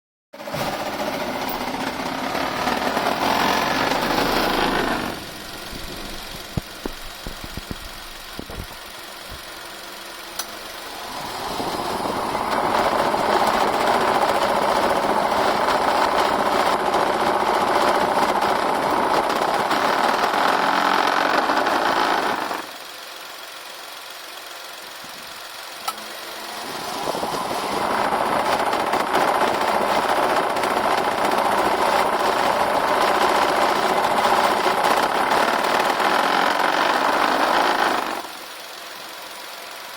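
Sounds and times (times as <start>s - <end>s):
rattling cooling fan: 0.8s - 9.6s, 10.2s - 21.0s, 25.1s - 38.3s.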